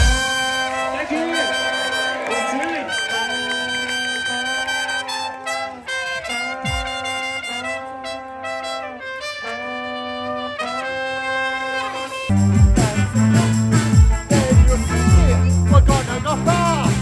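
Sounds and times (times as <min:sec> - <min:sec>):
brass music long held chords: 0:00.0 - 0:17.0.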